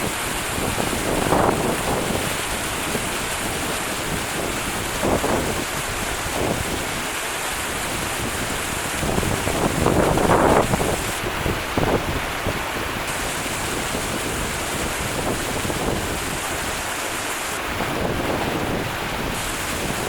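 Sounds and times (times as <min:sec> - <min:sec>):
steady rushing noise: 0:00.0 - 0:20.0
wind gusts buffeting microphone: 0:00.0 - 0:20.0.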